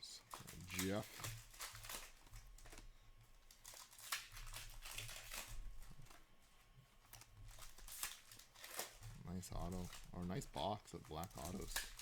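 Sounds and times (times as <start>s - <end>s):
card wrappers crinkling: 0.3s - 2.8s, 3.5s - 6.2s, 7.1s - 12.0s.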